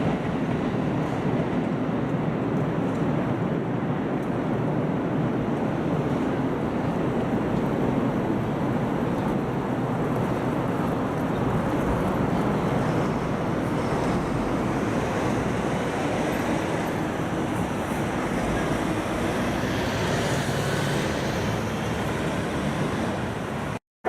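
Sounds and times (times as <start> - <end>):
road traffic rumble: 0.0 - 23.8.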